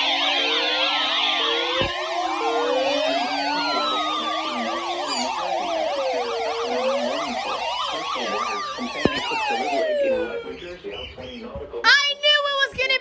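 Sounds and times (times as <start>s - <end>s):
sirens wailing and yelping: 0.0s - 11.6s.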